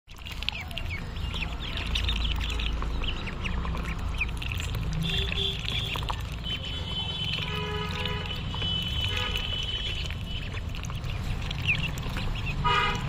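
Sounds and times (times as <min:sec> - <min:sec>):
ducklings peeping: 0:00.1 - 0:13.0.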